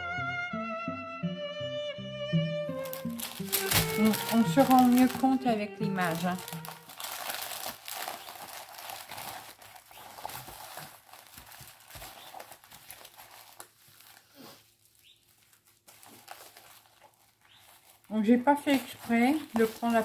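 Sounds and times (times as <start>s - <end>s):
packaging crinkling and rustling: 2.7s - 20.0s.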